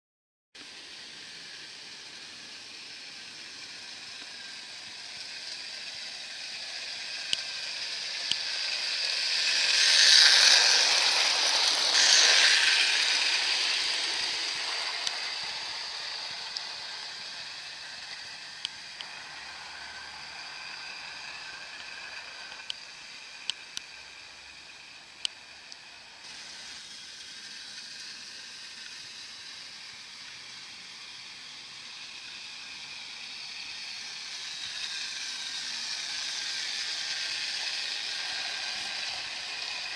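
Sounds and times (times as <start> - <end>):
model train rattling past: 0.6 - 39.9.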